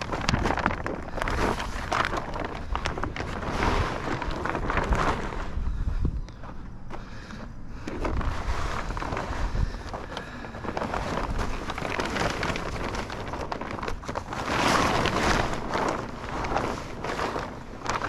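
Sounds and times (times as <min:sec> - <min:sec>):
plastic tarp crackling: 0:00.0 - 0:18.0
wind rumbling on microphone: 0:00.0 - 0:18.0.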